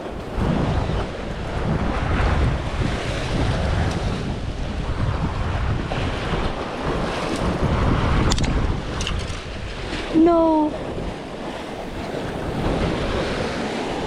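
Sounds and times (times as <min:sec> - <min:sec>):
sea waves washing in: 0:00.0 - 0:14.0
wind buffeting the microphone: 0:00.0 - 0:14.0.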